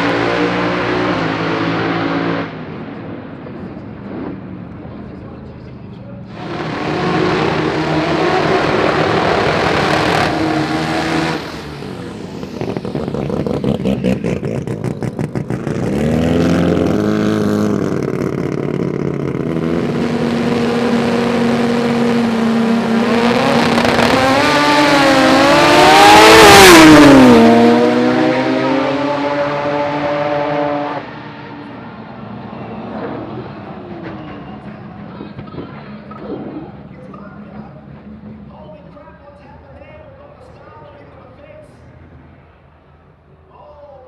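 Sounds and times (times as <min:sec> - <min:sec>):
drag racing car engine revving: 0:00.0 - 0:04.8, 0:06.2 - 0:38.9.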